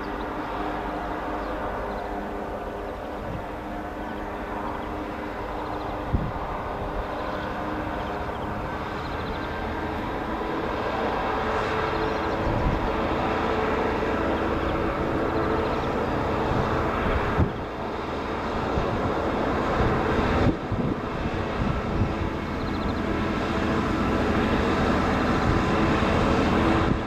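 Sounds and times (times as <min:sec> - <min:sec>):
diesel locomotive engine droning: 0:00.0 - 0:27.0.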